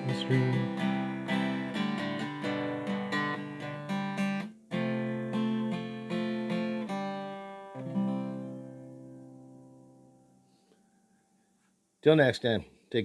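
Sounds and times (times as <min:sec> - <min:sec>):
acoustic guitar strumming chords: 0:00.0 - 0:10.4.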